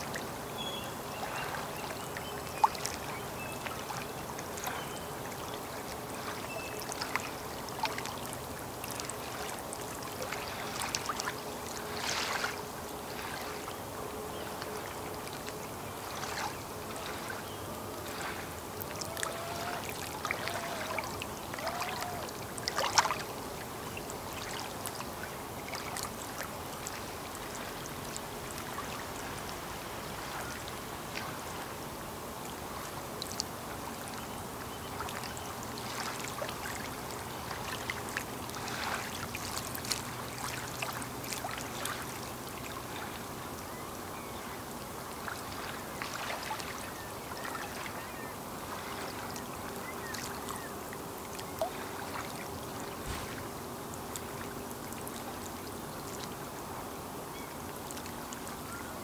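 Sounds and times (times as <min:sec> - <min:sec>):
faint steady hum: 0:00.0 - 0:59.0
small waves lapping shore: 0:00.0 - 0:59.0.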